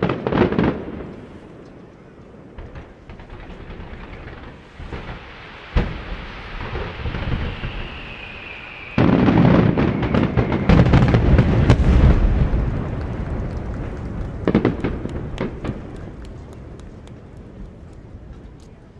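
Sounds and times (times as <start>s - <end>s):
fireworks booming: 0.0s - 18.6s
fireworks crackling: 0.0s - 18.9s.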